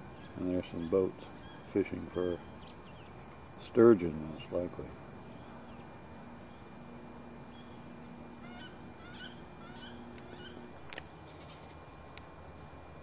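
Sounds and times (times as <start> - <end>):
distant birds calling: 0.0 - 12.2
faint low hum: 0.0 - 13.0.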